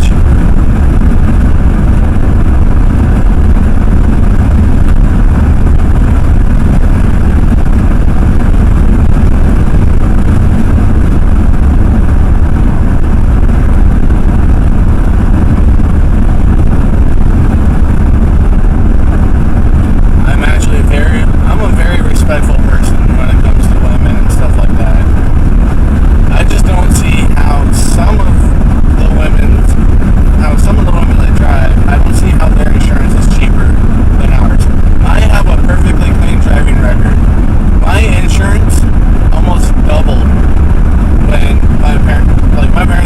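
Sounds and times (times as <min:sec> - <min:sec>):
truck engine and road noise: 0:00.0 - 0:43.0.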